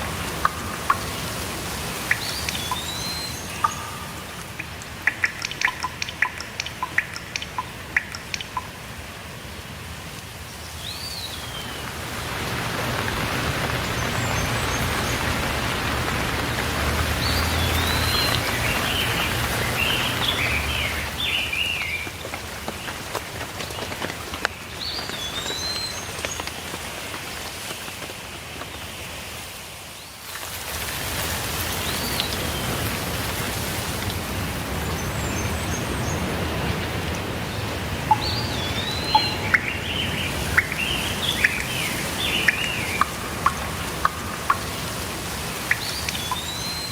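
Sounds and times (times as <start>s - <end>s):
songbirds chirping: 0.0s - 8.8s, 10.3s - 26.6s, 34.0s - 46.9s
steady rainfall: 0.0s - 46.9s.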